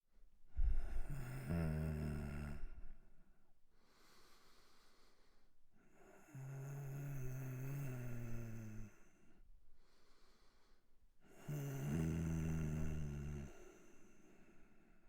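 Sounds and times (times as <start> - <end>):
man breathing laboriously: 0.5 - 3.0, 3.7 - 15.0.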